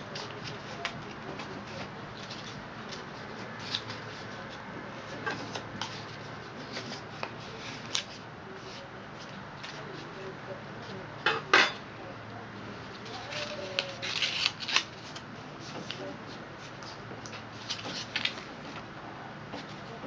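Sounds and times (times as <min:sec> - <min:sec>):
paper rustling and crinkling: 0:00.0 - 0:10.3, 0:12.9 - 0:18.9
low background hum: 0:00.0 - 0:20.0.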